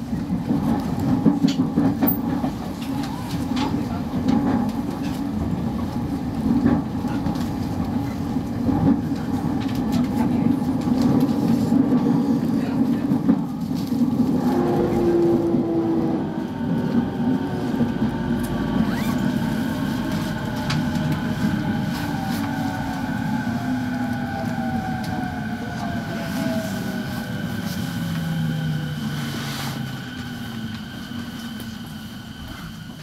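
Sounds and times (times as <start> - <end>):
train wheel and rail rumble: 0.0 - 33.0.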